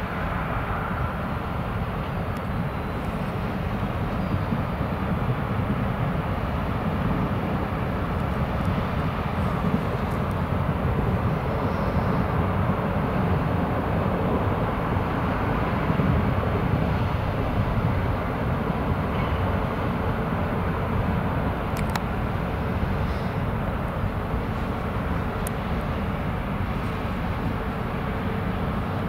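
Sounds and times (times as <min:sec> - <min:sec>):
ship machinery low rumble: 0:00.0 - 0:29.0.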